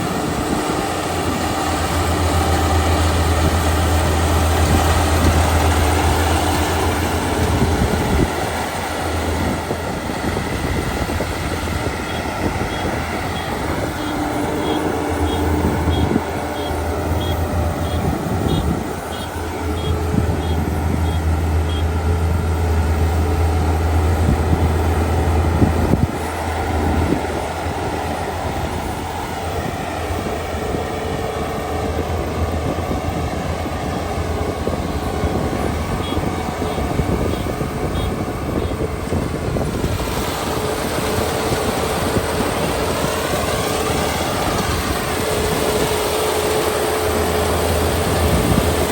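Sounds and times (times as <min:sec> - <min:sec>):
combine harvester running: 0:00.0 - 0:48.9.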